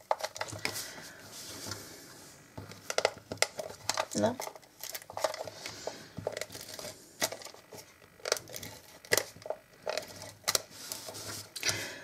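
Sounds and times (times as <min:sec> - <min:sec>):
paper crinkling: 0:00.0 - 0:01.9, 0:02.6 - 0:11.8.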